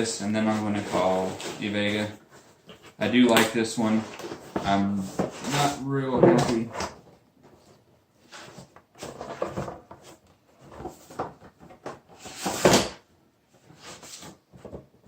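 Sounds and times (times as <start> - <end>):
packaging rustling and scraping: 0.0 - 13.0, 13.6 - 15.0.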